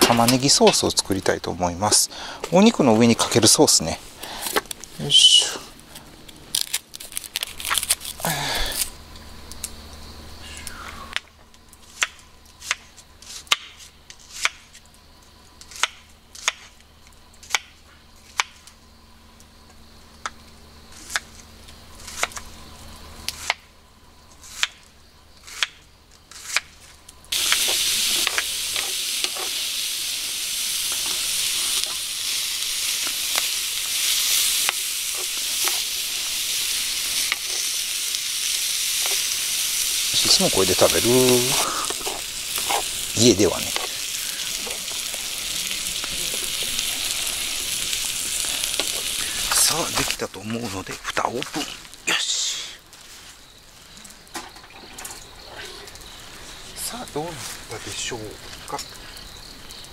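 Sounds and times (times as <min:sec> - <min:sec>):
onion sizzling in frying pan: 0:11.5 - 0:59.9.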